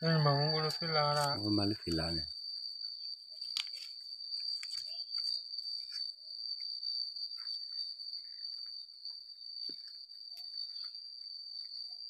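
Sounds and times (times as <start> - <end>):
insects calling high-pitched tone: 0.0 - 12.0.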